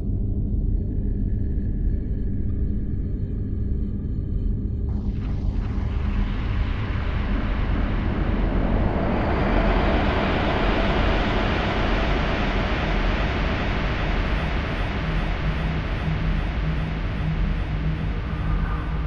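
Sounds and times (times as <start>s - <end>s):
deep steady rumble: 3.4s - 19.0s.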